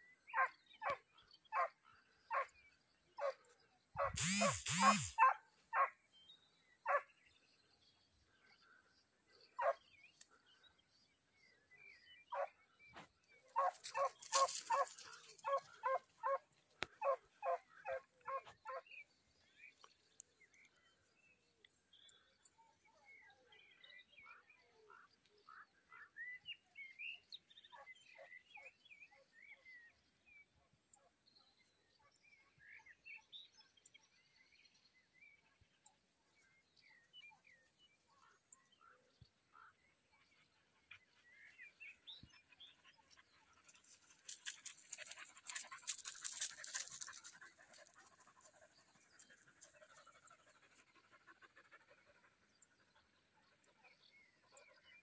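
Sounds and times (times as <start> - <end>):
faint birdsong: 0.0 - 55.0.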